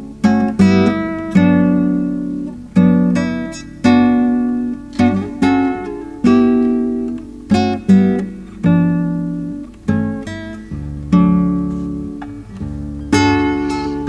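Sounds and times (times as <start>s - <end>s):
fingerpicked classical guitar: 0.0s - 14.0s.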